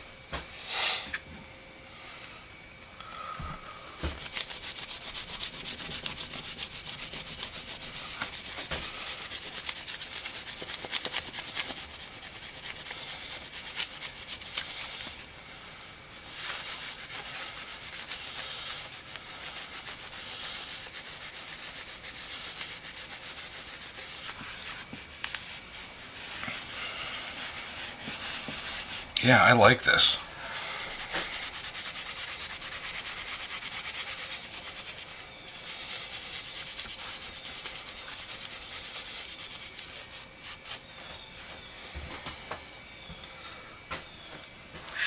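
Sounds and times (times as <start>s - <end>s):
wax rubbing on wooden handle: 4.0s - 15.3s, 16.3s - 41.6s.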